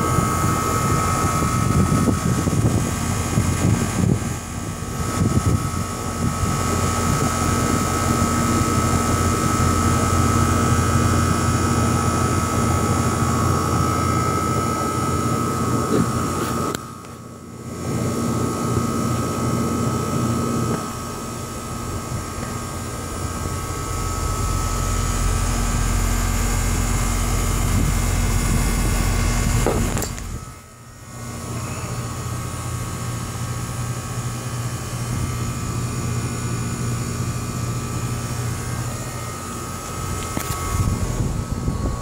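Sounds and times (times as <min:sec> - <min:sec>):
air conditioner humming: 0:00.0 - 0:42.0.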